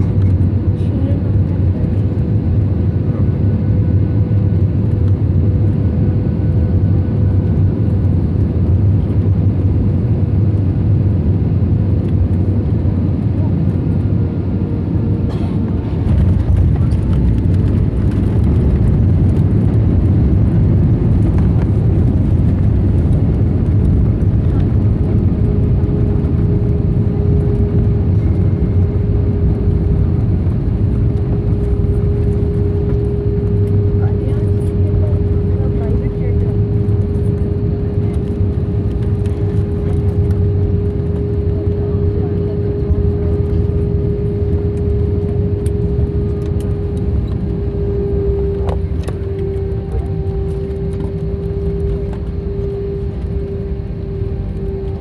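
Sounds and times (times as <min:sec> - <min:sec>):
constant cabin hum: 0:00.0 - 0:55.0
jet engines running: 0:00.0 - 0:55.0
wheels rumbling on runway: 0:00.0 - 0:55.0.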